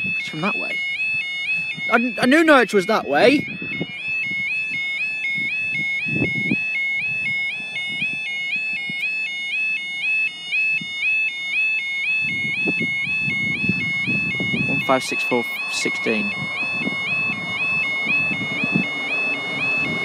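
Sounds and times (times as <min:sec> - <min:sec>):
level crossing warbling alarm: 0:00.0 - 0:20.0.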